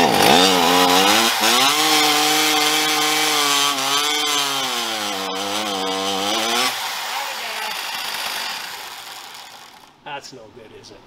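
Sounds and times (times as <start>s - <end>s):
chainsaw engine revving: 0.0s - 10.0s.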